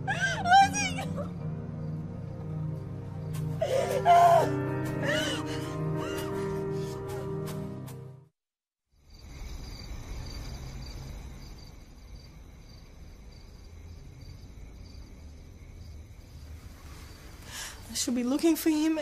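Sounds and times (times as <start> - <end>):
crickets chirping: 0.0 - 6.9, 9.0 - 19.0.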